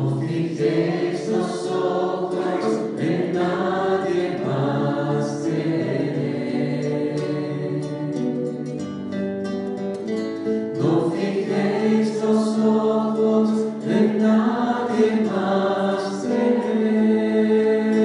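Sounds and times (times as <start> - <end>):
choir singing: 0.0 - 9.0, 10.6 - 18.0
acoustic guitar: 0.0 - 18.0.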